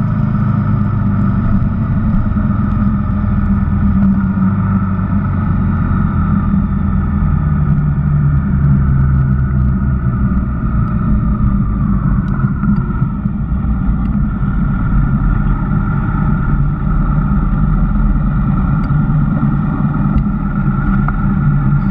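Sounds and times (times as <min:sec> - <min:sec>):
motorcycle engine running: 0:00.0 - 0:21.9
wet tyre noise: 0:00.0 - 0:21.9
wind: 0:00.0 - 0:21.9.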